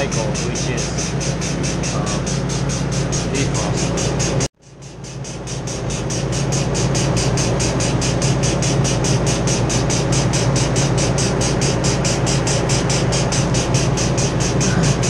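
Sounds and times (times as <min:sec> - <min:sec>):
fast pulsing hiss: 0:00.0 - 0:15.0
refrigeration equipment humming: 0:00.0 - 0:15.0.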